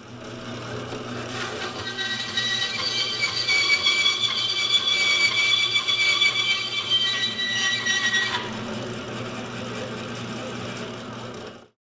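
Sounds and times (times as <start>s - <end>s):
band saw cutting wood: 0.7s - 11.0s.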